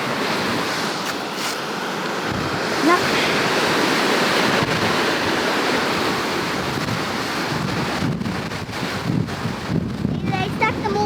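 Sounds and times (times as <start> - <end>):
ocean surf washing ashore: 0.0 - 11.0
wind buffeting microphone: 2.1 - 11.0.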